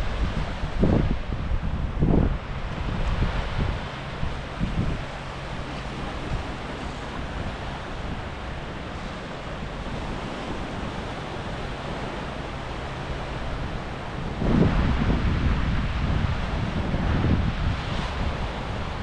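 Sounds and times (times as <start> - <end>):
surf washing onto beach: 0.0 - 19.0
wind on microphone: 0.0 - 19.0.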